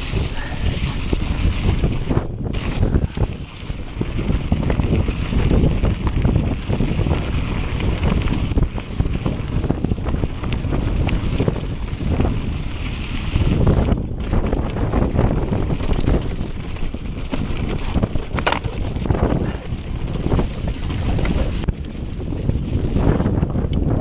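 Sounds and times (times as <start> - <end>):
bike rattling over rough ground: 0.0 - 24.0
wind buffeting microphone: 0.0 - 24.0.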